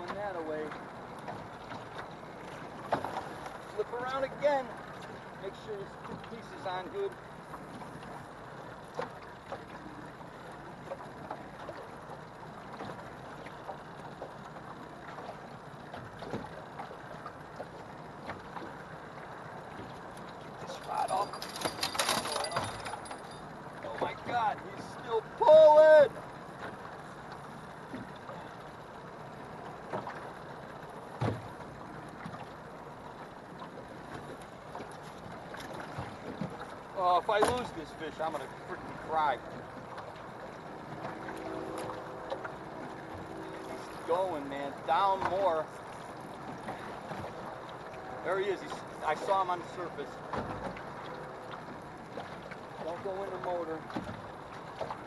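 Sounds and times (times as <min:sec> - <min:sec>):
water slaps: 0:00.0 - 0:05.3, 0:08.8 - 0:28.6, 0:33.2 - 0:55.0
water lapping against boat hull: 0:00.0 - 0:55.0
waves: 0:00.0 - 0:55.0
wind: 0:00.0 - 0:55.0.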